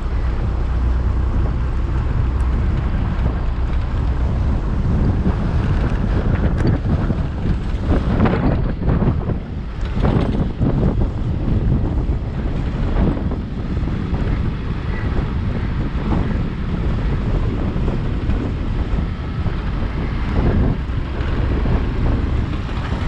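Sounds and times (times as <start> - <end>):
road noise: 0.0 - 23.0
scooter engine running: 0.0 - 23.0
wind buffeting microphone: 0.0 - 23.0.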